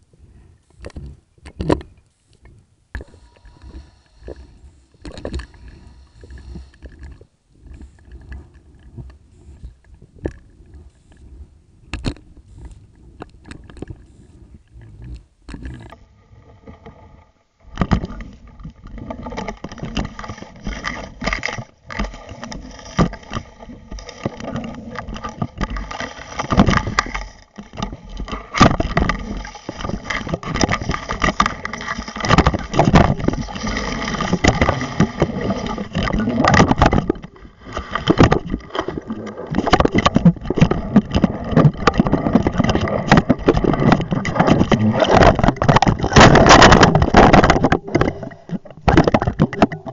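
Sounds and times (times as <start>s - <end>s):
underwater water noise: 0.0s - 49.9s.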